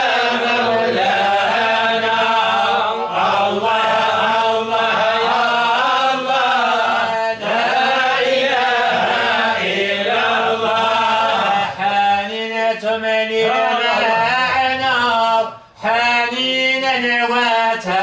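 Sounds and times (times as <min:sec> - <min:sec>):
men's voices chanting: 0:00.0 - 0:18.0.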